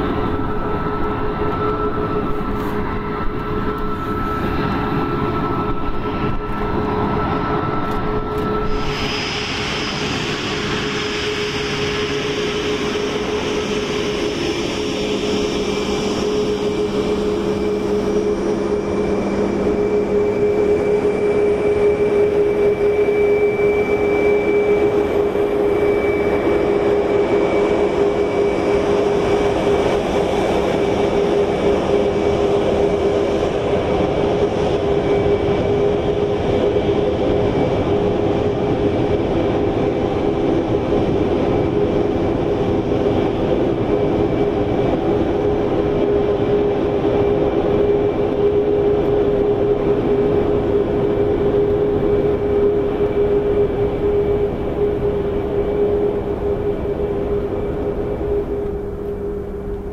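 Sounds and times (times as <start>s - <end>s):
jet engines rumbling: 0.0s - 59.9s
jet fan whine: 0.0s - 59.9s.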